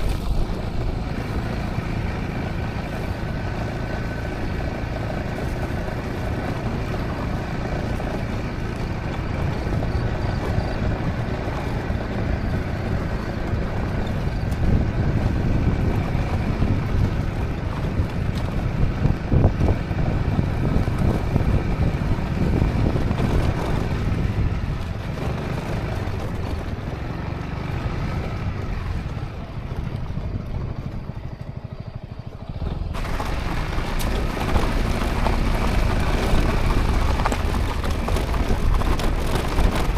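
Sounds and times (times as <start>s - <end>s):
road noise: 0.0s - 39.9s
scooter engine running: 0.0s - 39.9s
wind buffeting microphone: 0.0s - 39.9s.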